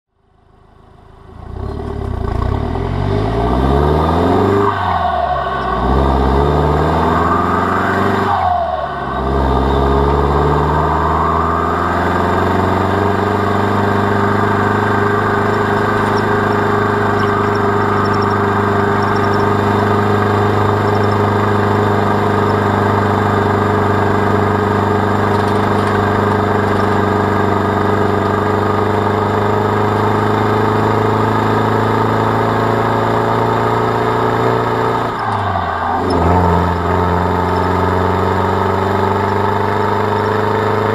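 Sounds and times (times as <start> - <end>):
diesel engine pulling under load: 1.2 - 40.9.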